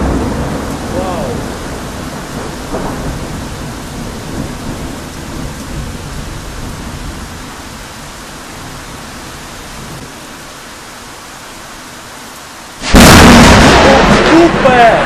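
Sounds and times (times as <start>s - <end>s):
thunder rumbling: 0.0s - 10.1s, 12.8s - 15.0s
heavy rain pouring: 0.0s - 15.0s.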